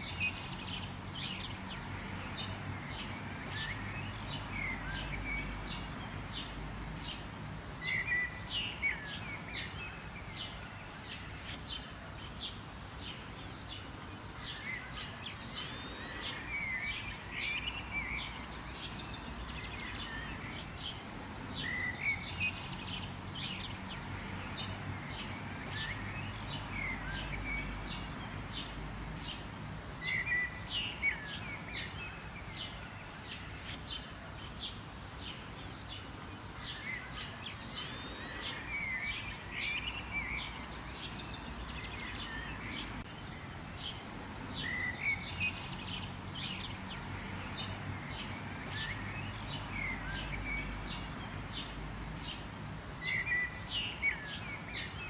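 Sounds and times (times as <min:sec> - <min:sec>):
birds chirping: 0:00.0 - 0:55.0
warbled bird song: 0:00.0 - 0:55.0.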